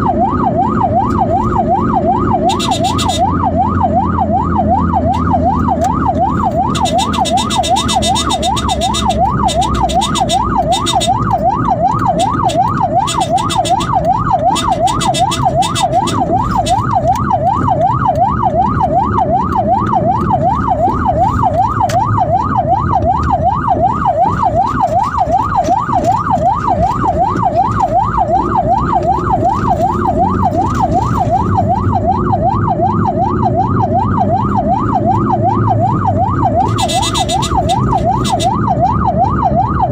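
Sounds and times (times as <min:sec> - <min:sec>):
electronic siren fast yelp: 0:00.0 - 0:39.9
engine and road noise rumble: 0:00.0 - 0:39.9.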